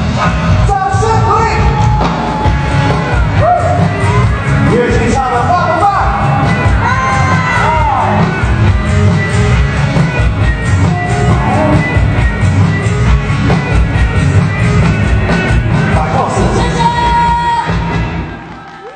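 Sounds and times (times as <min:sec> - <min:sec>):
live band playing loud music: 0:00.0 - 0:18.9.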